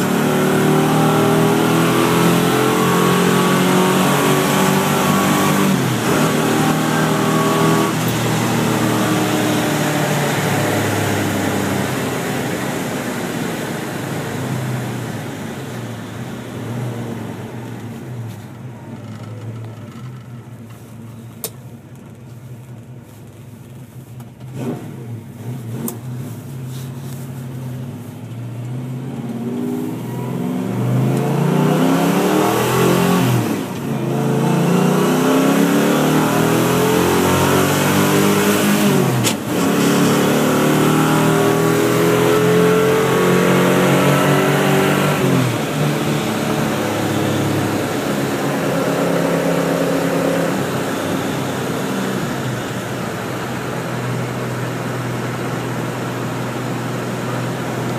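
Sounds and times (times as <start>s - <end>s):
car engine accelerating through gears: 0.0s - 21.2s, 24.4s - 57.9s.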